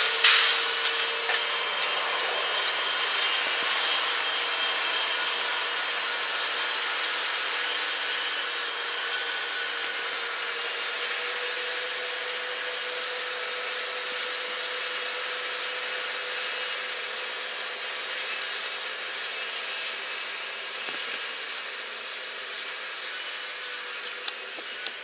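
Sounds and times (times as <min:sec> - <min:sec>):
tractor engine hum with whine: 0:00.0 - 0:25.0.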